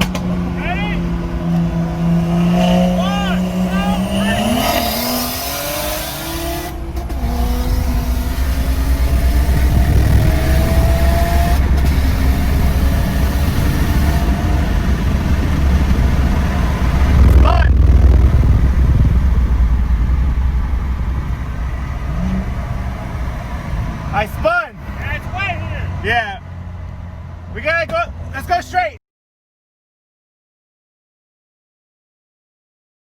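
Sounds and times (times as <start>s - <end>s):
car engine at full throttle: 0.0s - 28.6s
road and wind rumble: 0.0s - 29.0s.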